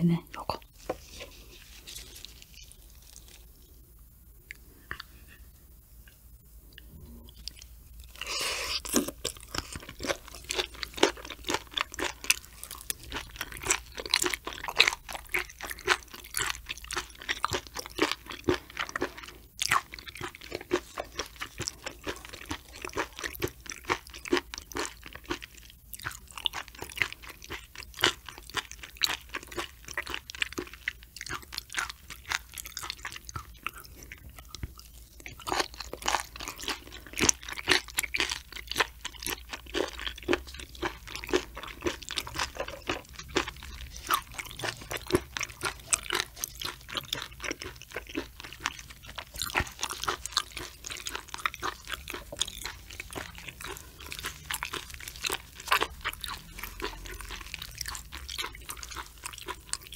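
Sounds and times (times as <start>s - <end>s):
wet chewing with crunches: 0.4s - 3.7s, 4.4s - 5.4s, 6.8s - 59.9s.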